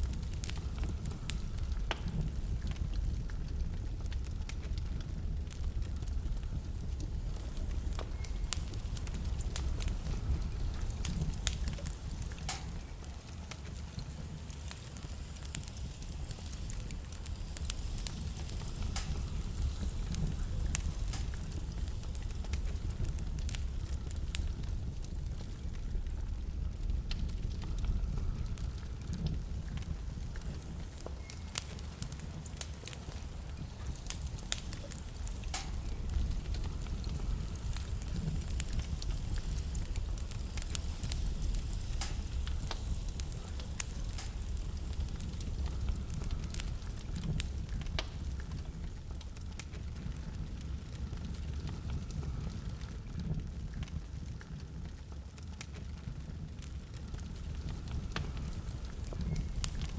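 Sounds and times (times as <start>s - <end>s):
burning logs crackling and popping: 0.0s - 59.9s
flames rumbling low: 0.0s - 59.9s.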